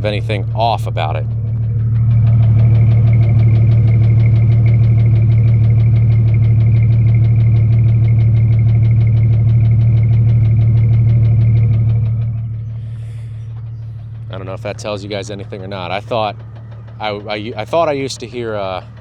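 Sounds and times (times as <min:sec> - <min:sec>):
engine idling with fast ticking: 0:00.0 - 0:19.0.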